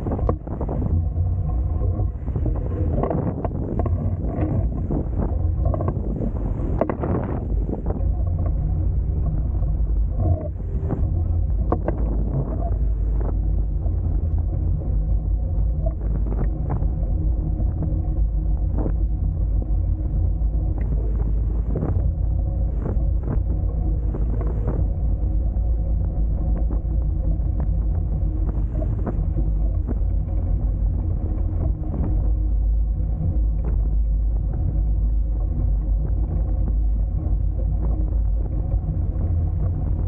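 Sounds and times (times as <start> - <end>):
catamaran hulls rumbling: 0.0 - 40.0
wind on microphone: 0.0 - 40.0.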